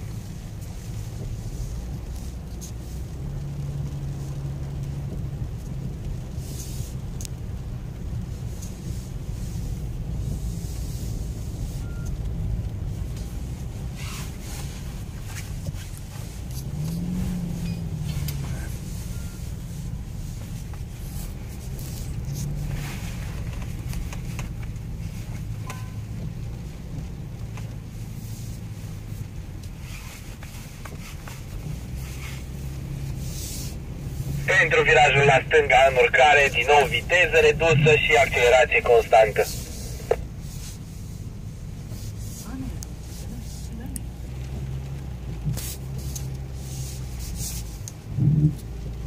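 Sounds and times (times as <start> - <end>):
engine and tyre rumble: 0.0 - 49.0
engine hum: 0.0 - 49.0.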